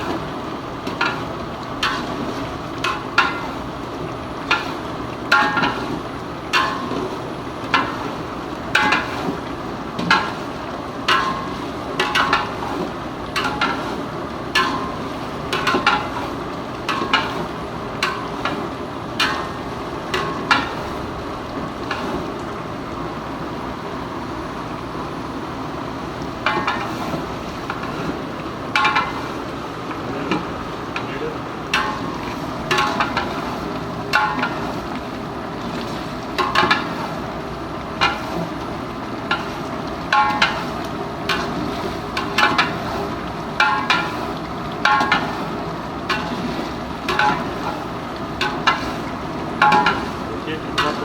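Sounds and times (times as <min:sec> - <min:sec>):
frying sizzle: 0:00.0 - 0:51.0.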